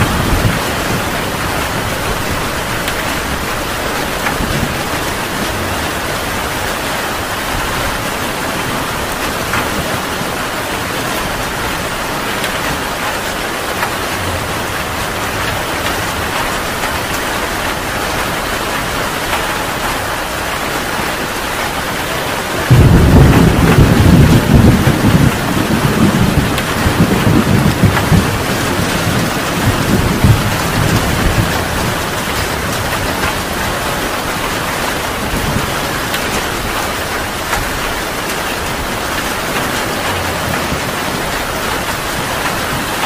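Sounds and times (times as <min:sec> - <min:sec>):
thunder clap: 0:00.0 - 0:19.9, 0:22.6 - 0:43.0
heavy rain: 0:00.0 - 0:43.0.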